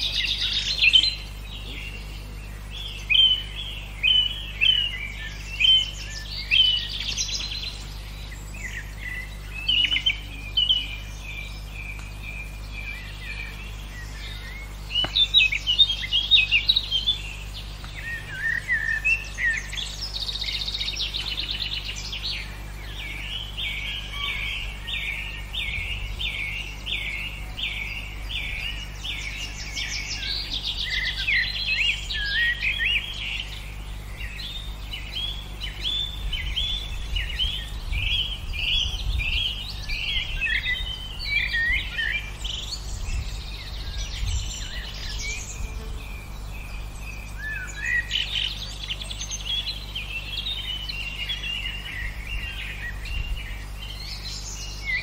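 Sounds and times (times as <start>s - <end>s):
low background rumble: 0.0s - 55.0s
songbirds singing and chirping: 0.0s - 55.0s.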